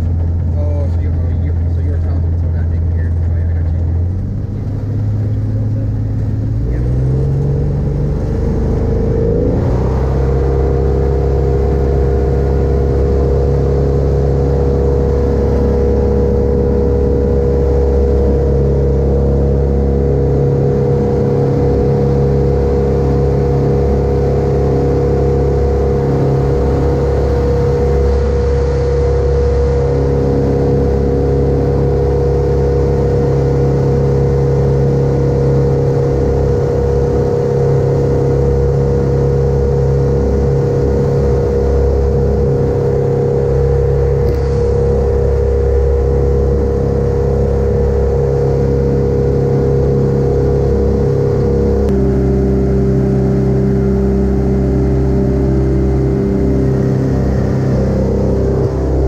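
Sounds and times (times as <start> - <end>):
aircraft engine and propeller: 0.0 - 59.0.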